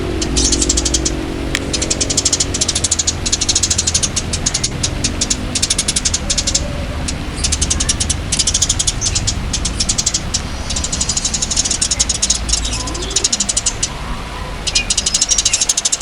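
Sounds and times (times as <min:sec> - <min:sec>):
low hum: 0:00.0 - 0:16.0
songbird chattering: 0:00.0 - 0:16.0.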